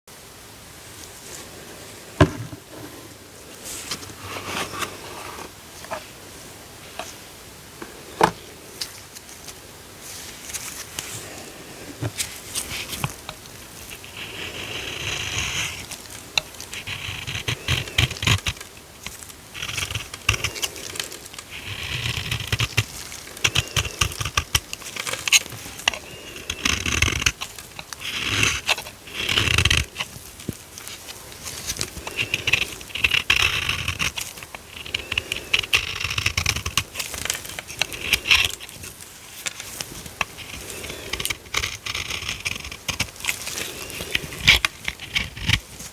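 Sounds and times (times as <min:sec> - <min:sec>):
dry soap crackling and crumbling: 0:02.5 - 0:45.9.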